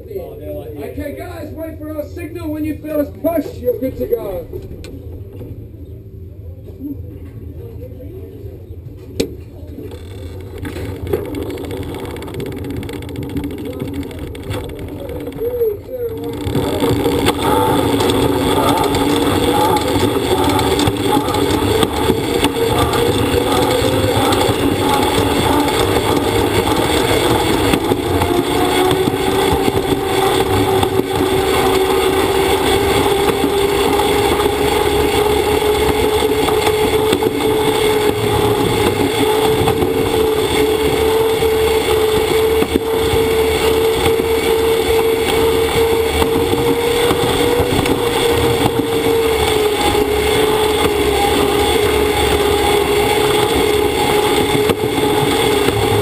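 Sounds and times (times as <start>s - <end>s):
rising whine: 1.0s - 8.5s, 9.2s - 56.0s
pod rolling rumble on rail: 1.0s - 56.0s.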